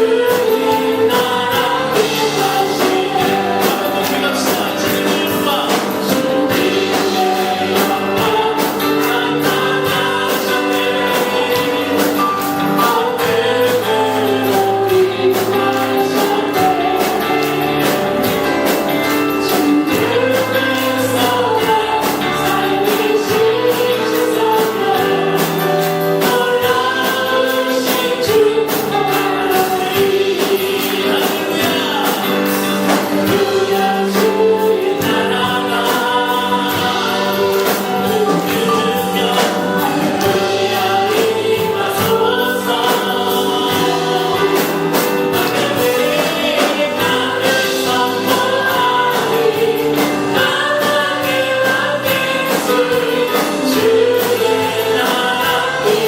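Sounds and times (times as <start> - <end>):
band accompaniment: 0.0 - 56.0
congregation singing: 0.0 - 56.0.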